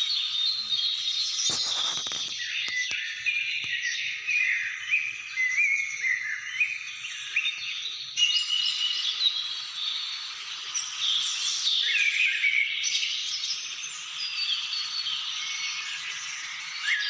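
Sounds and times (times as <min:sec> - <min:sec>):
chorus of birds singing: 0:00.0 - 0:17.0.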